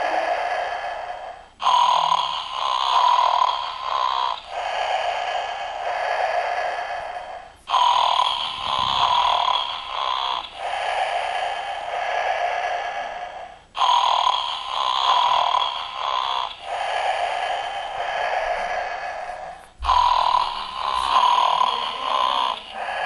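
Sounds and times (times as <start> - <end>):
toy speaker snoring: 0.0 - 23.0.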